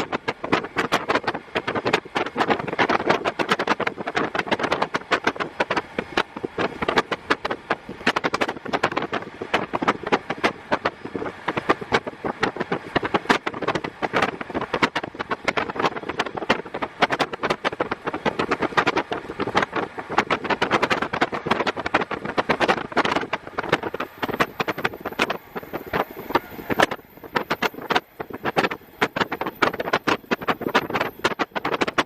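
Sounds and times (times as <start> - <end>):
diesel railcar engine: 0.0 - 32.0
train wheel noise: 0.0 - 32.0
wind buffeting microphone: 0.0 - 32.0.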